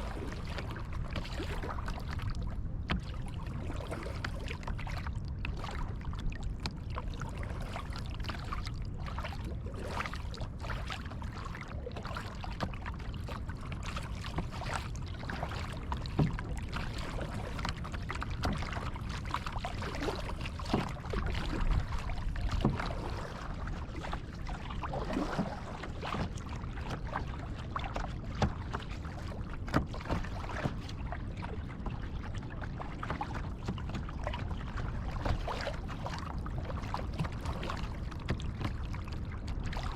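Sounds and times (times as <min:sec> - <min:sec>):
low steady rumble: 0:00.0 - 0:39.9
paddle splashing and dripping: 0:00.0 - 0:39.9.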